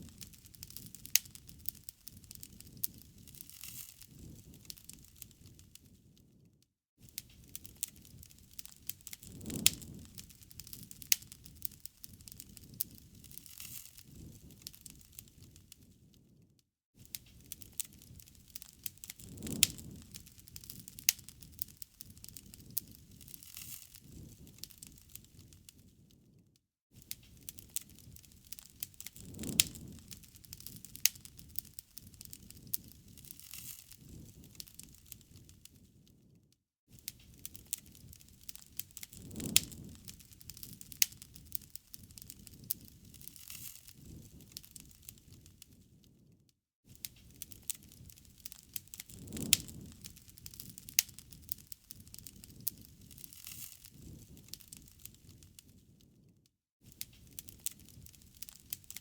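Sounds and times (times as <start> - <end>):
low rush of burning: 0.0 - 5.6, 7.3 - 15.6, 17.3 - 26.0, 27.2 - 35.9, 37.1 - 45.7, 47.3 - 55.4
sharp fire pops: 0.0 - 6.3, 7.0 - 16.3, 17.0 - 26.0, 27.0 - 36.1, 36.9 - 45.9, 46.9 - 55.9
bonfire crackling: 0.0 - 16.4, 17.0 - 26.4, 27.0 - 46.3, 46.9 - 56.3, 56.9 - 59.0.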